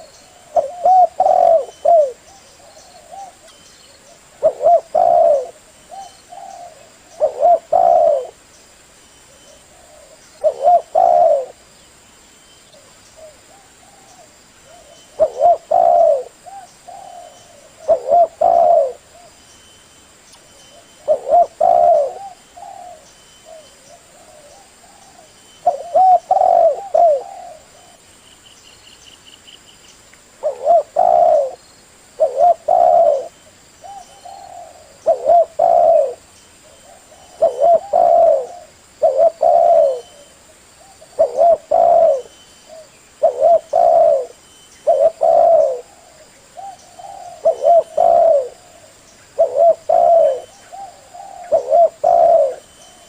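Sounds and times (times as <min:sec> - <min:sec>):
dove cooing: 0:00.0 - 0:08.4, 0:09.3 - 0:11.6, 0:12.8 - 0:19.4, 0:20.7 - 0:28.0, 0:30.4 - 0:53.0.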